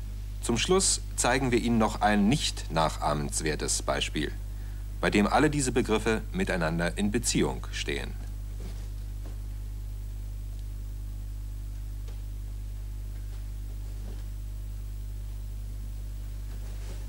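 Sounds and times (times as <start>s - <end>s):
low mains hum: 0.0s - 17.0s.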